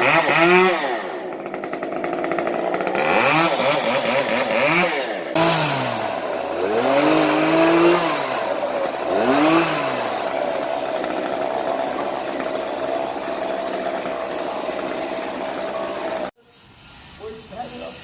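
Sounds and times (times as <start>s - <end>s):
chainsaw revving: 0.0s - 16.3s.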